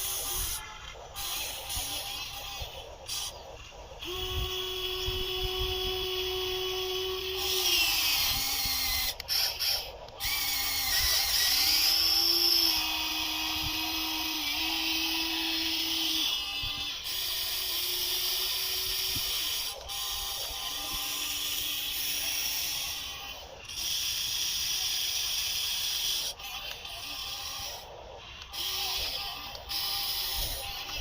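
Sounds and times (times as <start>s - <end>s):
toy electric motors whining: 0.0s - 31.0s.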